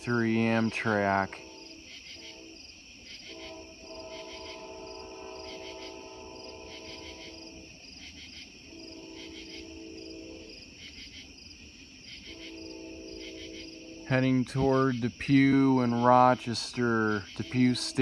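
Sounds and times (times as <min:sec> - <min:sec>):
train horn blasts: 0:00.0 - 0:07.8, 0:08.6 - 0:10.9, 0:12.2 - 0:18.0
crickets chirping: 0:00.0 - 0:18.0.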